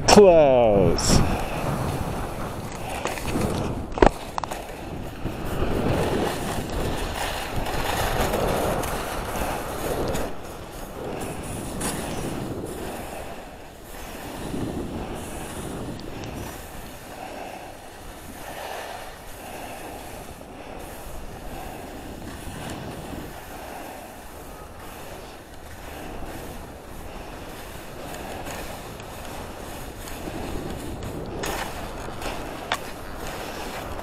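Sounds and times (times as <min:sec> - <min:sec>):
skis scraping over packed snow: 0:00.1 - 0:34.0.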